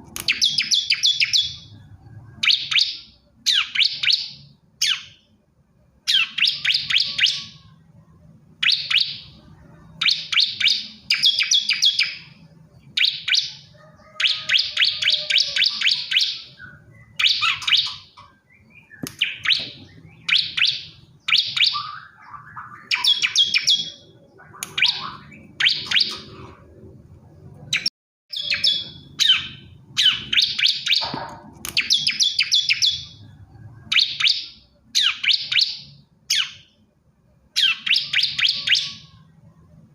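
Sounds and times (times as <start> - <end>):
bird chattering song: 0.2 - 5.4, 6.1 - 7.8, 8.6 - 26.7, 27.6 - 36.8, 37.6 - 39.3.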